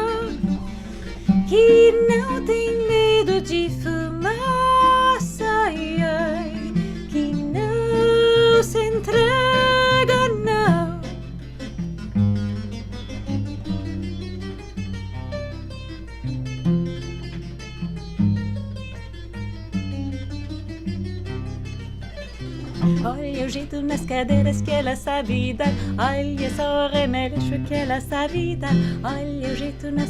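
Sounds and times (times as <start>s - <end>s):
plucked strings: 0.0s - 30.0s.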